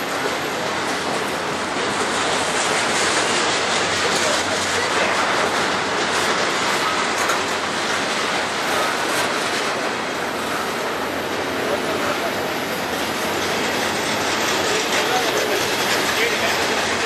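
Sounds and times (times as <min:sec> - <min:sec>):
steel wheels on rails: 0:00.0 - 0:17.0.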